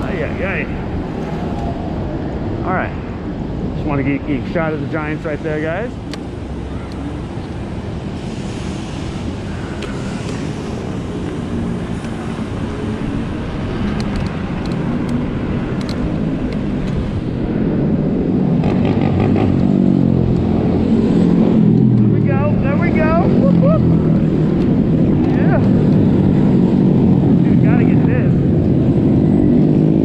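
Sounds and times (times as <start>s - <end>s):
wind and tyre rumble: 0.0s - 30.0s.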